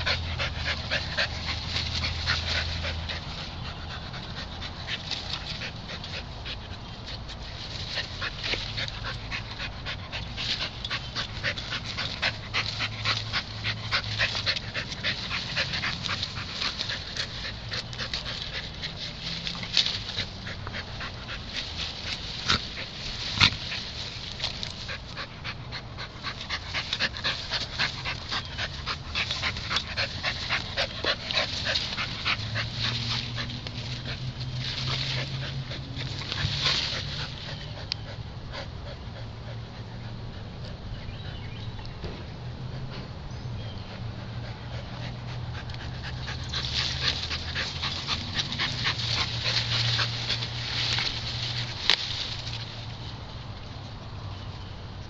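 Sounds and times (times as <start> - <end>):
dog breathing: 0.0 - 41.5, 43.9 - 51.8.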